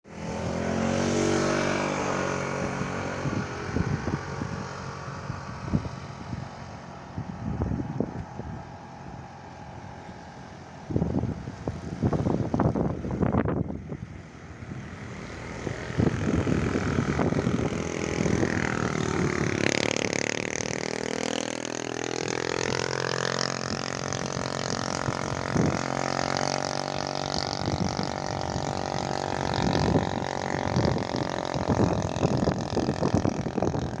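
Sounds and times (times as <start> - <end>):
boat motor running: 0.1 - 34.0
wind buffeting microphone: 0.1 - 34.0.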